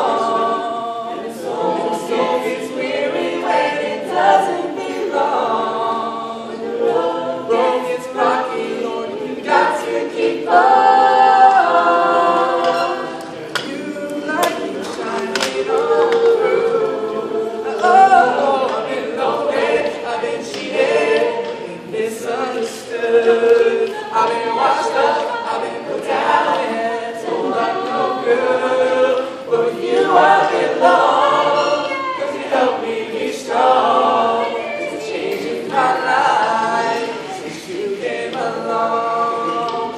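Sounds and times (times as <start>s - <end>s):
a cappella group singing in harmony: 0.0s - 39.9s.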